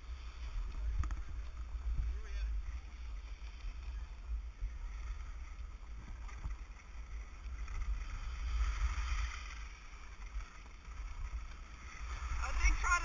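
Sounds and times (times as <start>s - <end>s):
skis sliding over snow: 0.0s - 13.0s.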